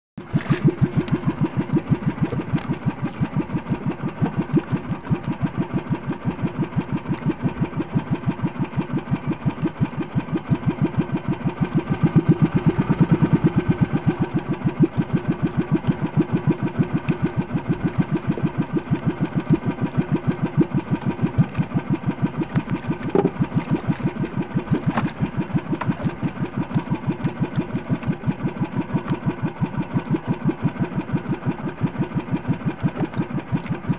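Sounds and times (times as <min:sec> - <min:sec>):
boat engine running: 0:00.2 - 0:33.9.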